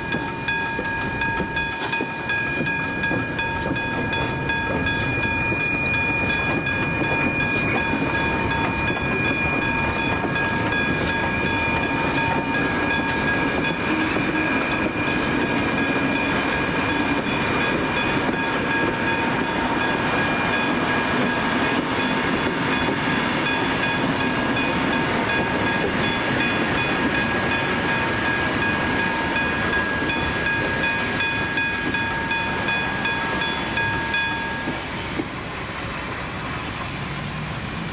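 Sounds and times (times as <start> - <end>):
level crossing bells ringing: 0.0 - 34.8
train wheels clattering on rails: 0.0 - 37.4.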